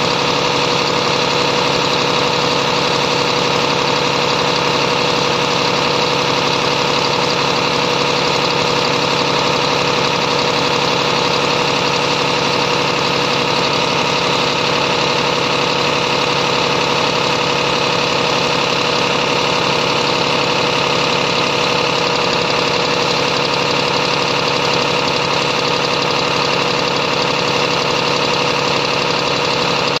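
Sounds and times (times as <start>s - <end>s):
truck diesel engine idling: 0.0s - 30.0s.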